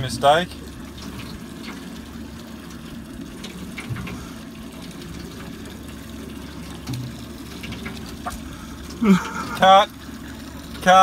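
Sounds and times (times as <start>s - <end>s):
boat engine running: 0.0s - 11.0s
water sloshing against hull: 0.0s - 11.0s.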